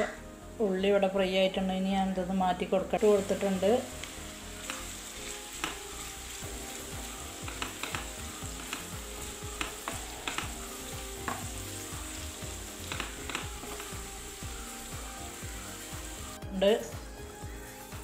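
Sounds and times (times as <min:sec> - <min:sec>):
onions sizzling in a frying pan: 0:00.0 - 0:18.0.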